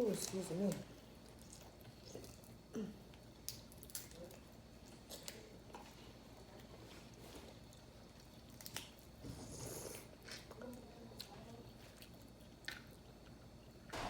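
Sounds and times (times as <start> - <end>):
chewing and mouth sounds: 0.0 - 13.9.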